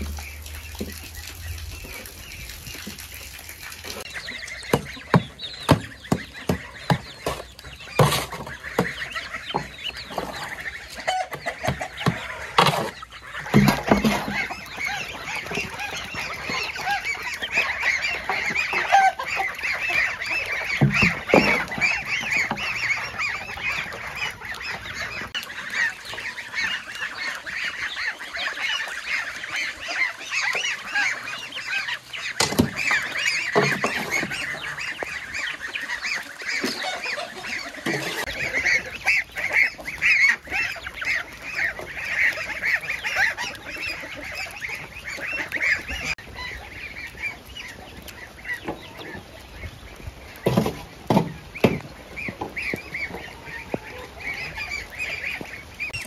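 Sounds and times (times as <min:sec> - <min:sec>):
flock of fowl calling: 0:00.0 - 0:56.0.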